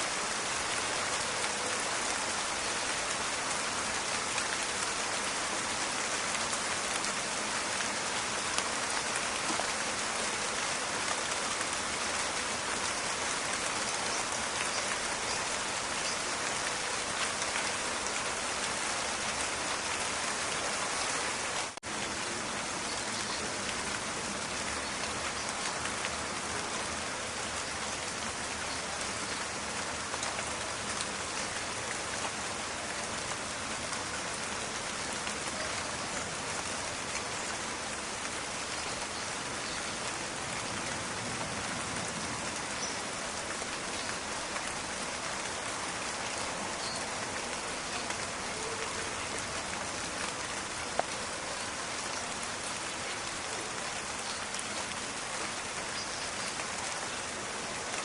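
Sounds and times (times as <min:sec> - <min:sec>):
rain falling in forest: 0:00.0 - 0:58.0.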